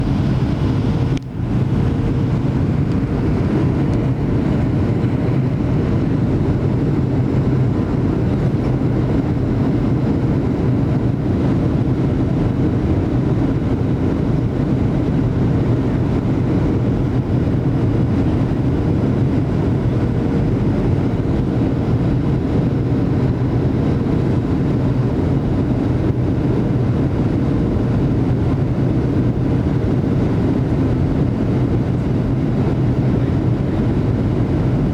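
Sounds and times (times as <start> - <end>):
airplane engines droning: 0.0 - 34.9
cabin airflow: 0.0 - 34.9
steady hum: 0.0 - 34.9.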